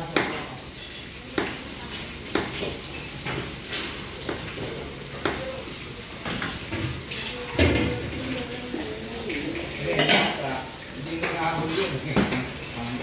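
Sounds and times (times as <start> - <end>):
utensils and pans clinking: 0.0 - 13.0.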